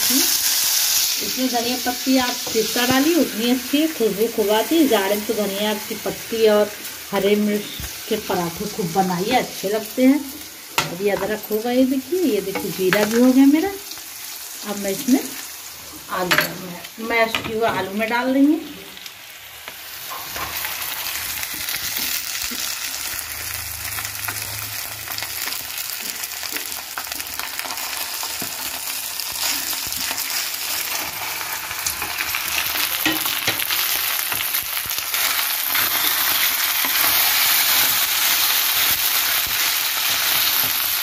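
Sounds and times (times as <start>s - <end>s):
potatoes sizzling in hot oil: 0.0s - 41.0s.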